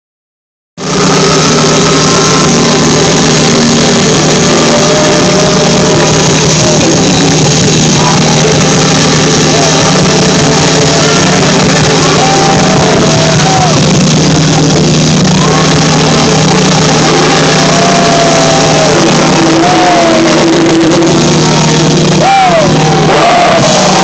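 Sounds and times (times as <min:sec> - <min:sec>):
loud live funk music: 0:00.8 - 0:24.0.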